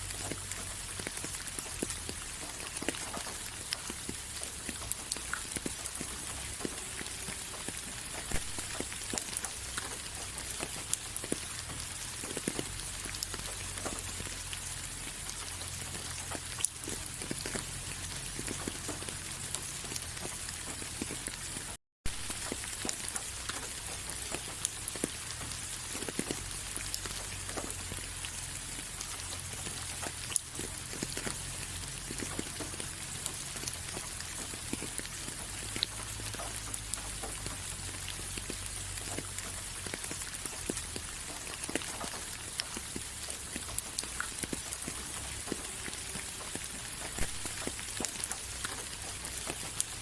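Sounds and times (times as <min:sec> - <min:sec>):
raindrops pattering: 0:00.0 - 0:50.0
steady rain hiss: 0:00.0 - 0:50.0.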